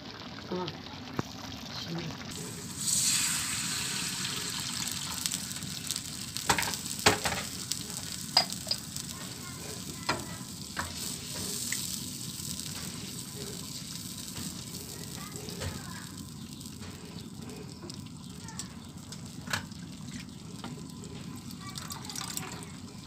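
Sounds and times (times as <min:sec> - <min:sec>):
sauce sizzling in a frying pan: 0:00.0 - 0:23.0.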